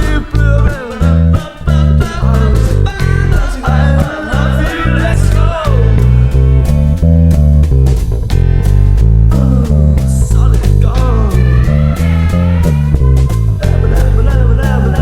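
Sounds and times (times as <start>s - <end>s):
backing track with singing: 0.0s - 6.7s, 9.3s - 15.0s
plucked bass line: 0.0s - 15.0s.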